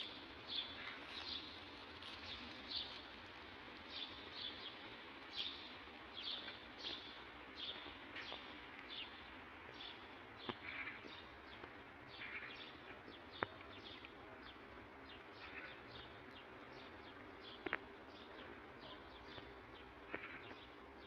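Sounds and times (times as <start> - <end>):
faint outdoor hiss: 0.0 - 21.0
small birds chirping: 0.0 - 21.0.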